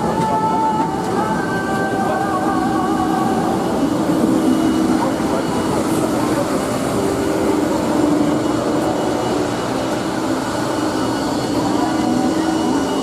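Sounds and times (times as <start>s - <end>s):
aircraft cabin mechanical drone: 0.0s - 13.0s
faint high whine: 0.0s - 13.0s.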